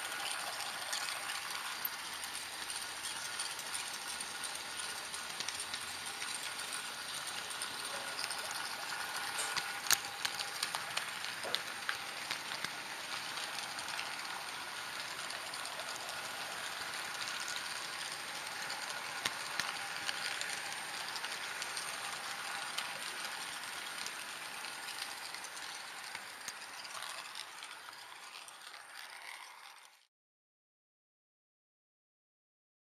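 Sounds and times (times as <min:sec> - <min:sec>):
model train motor whirring: 0:00.0 - 0:30.1
wheels clicking over rails: 0:00.0 - 0:30.1.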